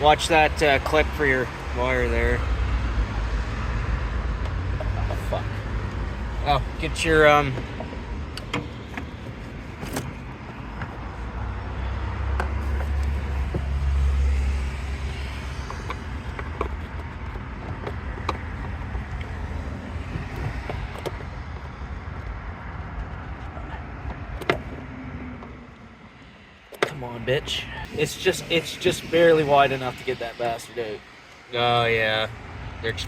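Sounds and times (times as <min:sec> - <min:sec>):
low vehicle rumble: 0:00.0 - 0:33.0.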